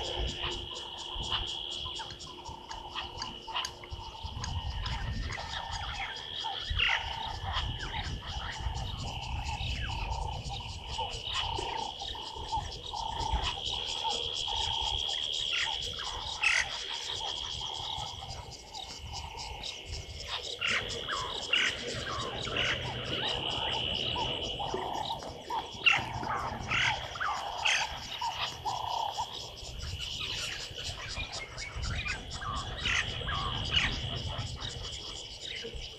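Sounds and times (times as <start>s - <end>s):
high insect drone with ticking: 0.0s - 35.9s.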